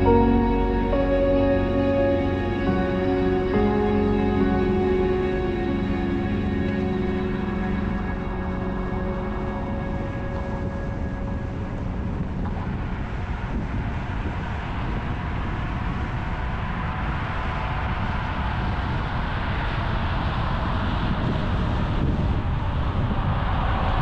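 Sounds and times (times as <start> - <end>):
car road and wind noise: 4.4 - 24.0.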